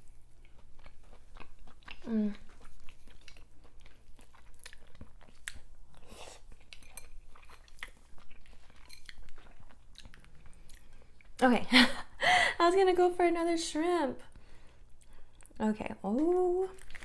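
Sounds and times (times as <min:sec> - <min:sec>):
chewing seafood: 0:00.0 - 0:11.4, 0:14.3 - 0:17.0.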